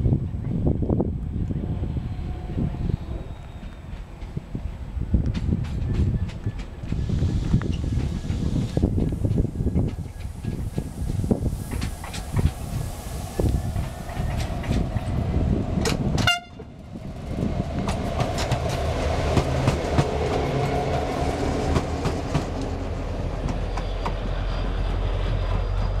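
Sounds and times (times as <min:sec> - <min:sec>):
train wheels clicking over rails: 0:03.4 - 0:26.0.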